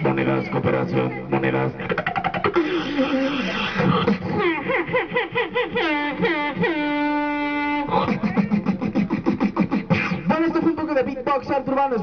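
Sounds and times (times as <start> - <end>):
beatboxing into a microphone: 0.0 - 10.9.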